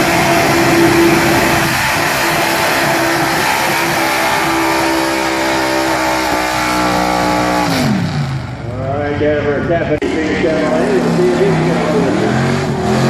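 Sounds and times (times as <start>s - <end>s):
heavy exhaust noise: 0.0s - 13.0s
truck engine at full throttle: 0.0s - 13.0s.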